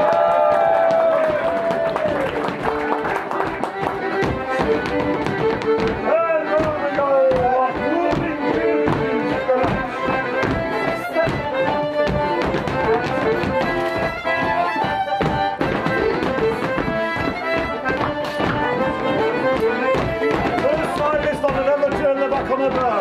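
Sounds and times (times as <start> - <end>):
folk dance tune: 0.0 - 23.0
taps and clacks of dancing: 0.0 - 23.0.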